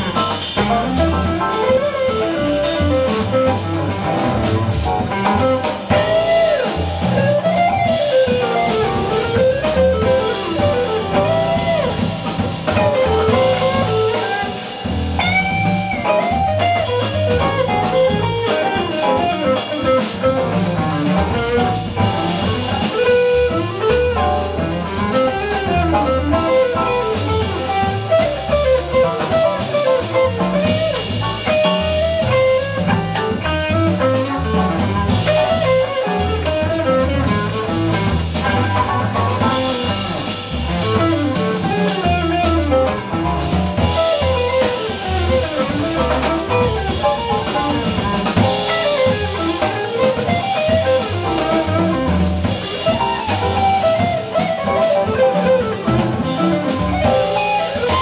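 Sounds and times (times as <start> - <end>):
drum kit: 0.0 - 58.0
jazz electric guitar melody: 0.0 - 58.0.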